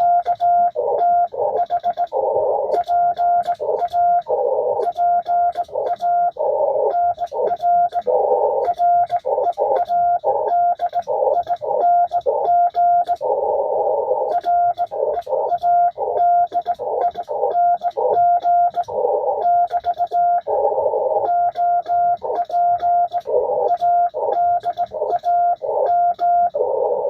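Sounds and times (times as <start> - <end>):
morse code tone: 0.0 - 27.0
radio band noise hiss: 0.0 - 27.0.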